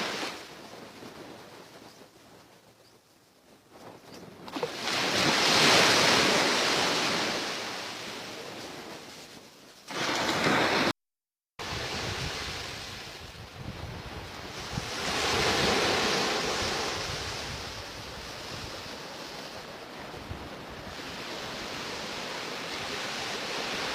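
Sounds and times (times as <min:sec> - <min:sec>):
sea surf washing onto shore: 0:00.0 - 0:01.5, 0:04.4 - 0:09.1, 0:09.9 - 0:10.9, 0:11.6 - 0:23.9.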